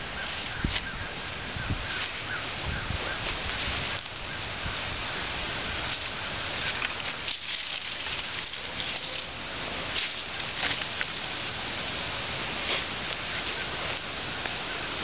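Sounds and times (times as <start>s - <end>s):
twig fire crackling: 0.0s - 15.0s.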